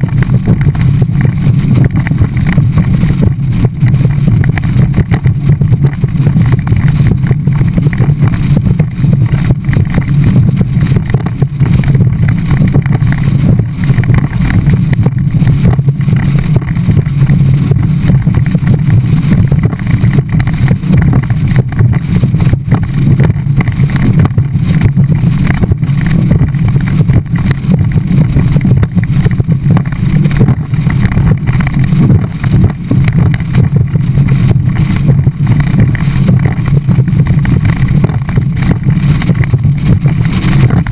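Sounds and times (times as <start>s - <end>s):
outboard motor running at speed: 0.0s - 40.9s
wind buffeting microphone: 0.0s - 40.9s.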